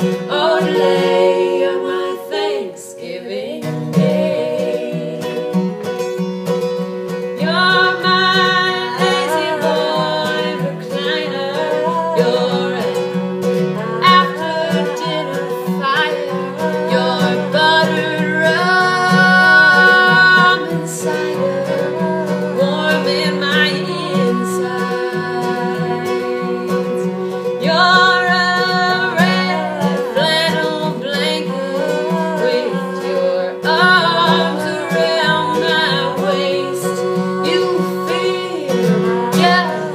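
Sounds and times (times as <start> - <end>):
women singing: 0.0 - 6.2, 7.1 - 39.9
acoustic guitar: 0.0 - 39.9.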